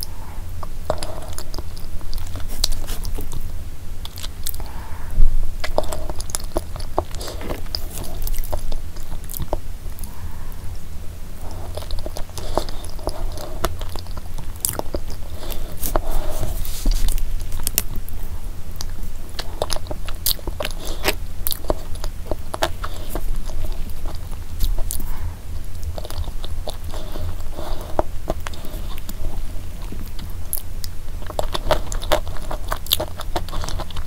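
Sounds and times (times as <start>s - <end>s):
close-miked chewing: 0.0s - 34.0s.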